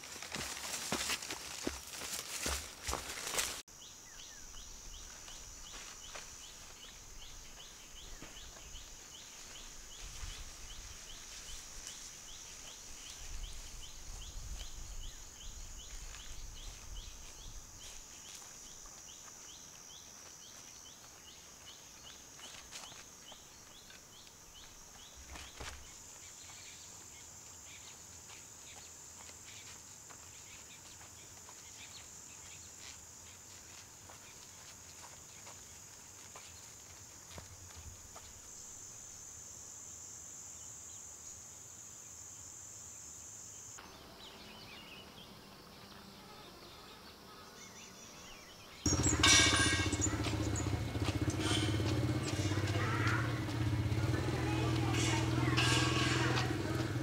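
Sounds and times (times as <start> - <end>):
insect chirps: 0.0 - 57.0
insects droning: 0.0 - 57.0.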